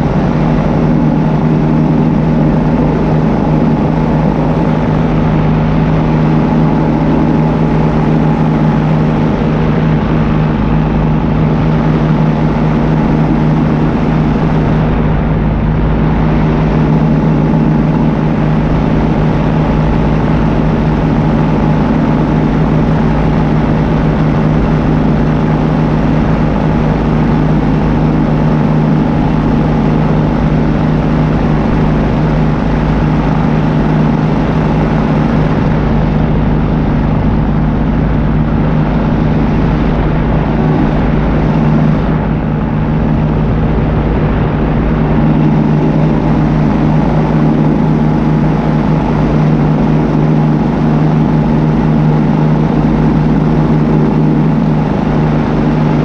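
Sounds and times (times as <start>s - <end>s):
paramotor engine droning: 0.0s - 56.0s.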